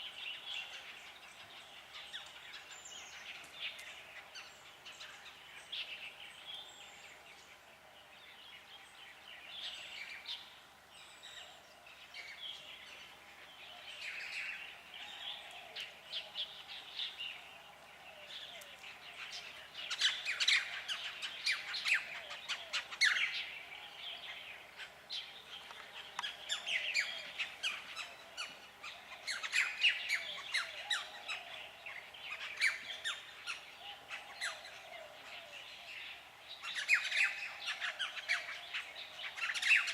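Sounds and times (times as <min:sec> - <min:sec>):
wild birds chirping and squawking: 0:00.0 - 0:39.9.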